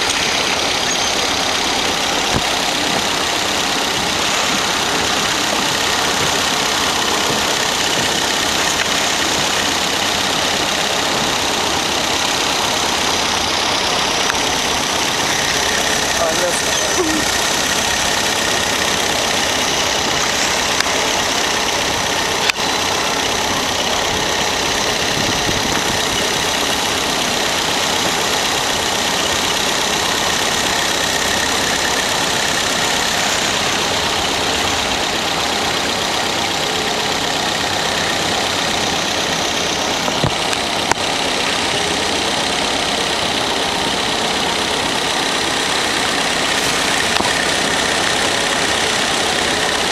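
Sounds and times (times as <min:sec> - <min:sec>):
boat engine idling: 0:00.0 - 0:49.9.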